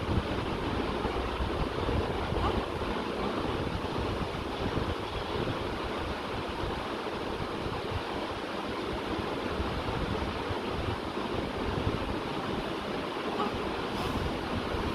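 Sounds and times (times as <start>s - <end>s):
steady rushing noise: 0.0s - 14.9s.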